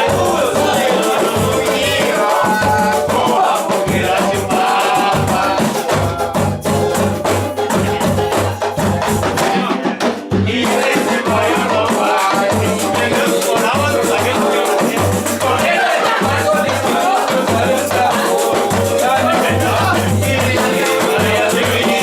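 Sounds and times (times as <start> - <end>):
samba band music: 0.0 - 22.0.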